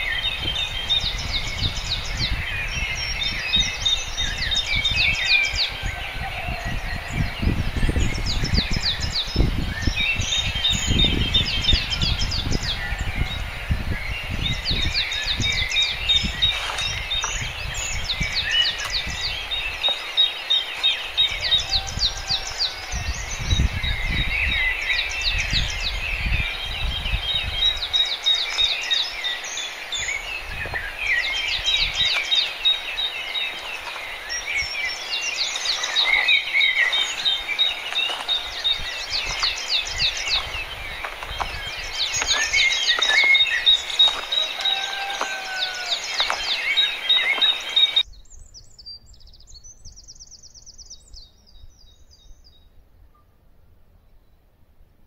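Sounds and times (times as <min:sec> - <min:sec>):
small birds chirping: 0:00.0 - 0:53.1.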